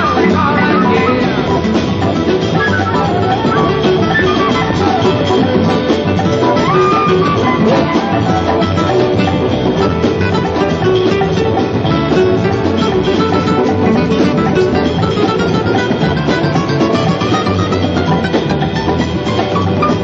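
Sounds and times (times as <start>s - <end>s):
acoustic guitar: 0.0s - 20.0s
bass: 0.0s - 20.0s
drums: 0.0s - 20.0s.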